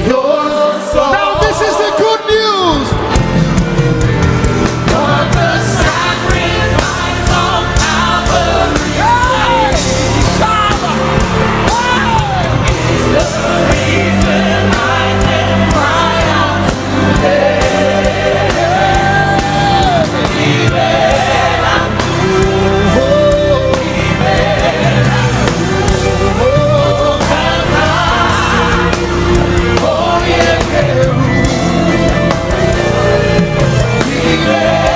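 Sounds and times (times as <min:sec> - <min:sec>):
band with drums and bass: 0:00.0 - 0:34.9.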